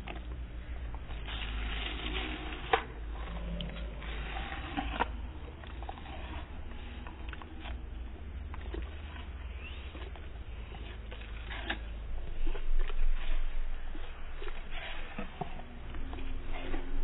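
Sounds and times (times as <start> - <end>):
dog chewing apple: 0.0 - 17.0
steady low hum: 0.0 - 17.0.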